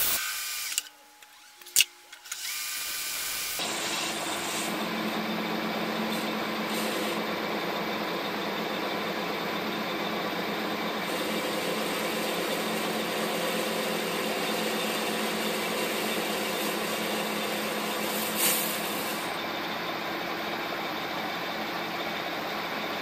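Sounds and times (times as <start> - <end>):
lathe tool cutting metal: 0.0 - 22.9
lathe motor humming: 0.0 - 23.0.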